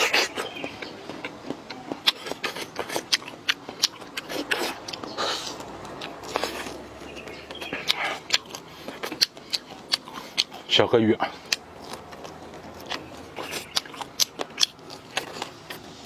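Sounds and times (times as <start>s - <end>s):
person chewing with mouth clicks: 0.0s - 16.0s.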